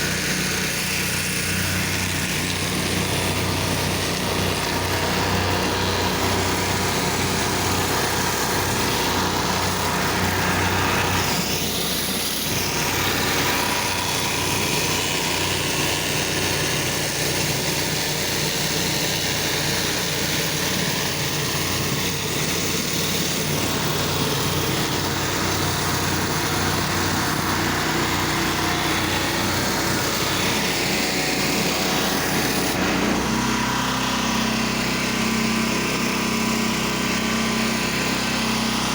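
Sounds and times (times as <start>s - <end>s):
pressure washer engine running: 0.0s - 38.9s
water spraying on concrete: 0.0s - 38.9s.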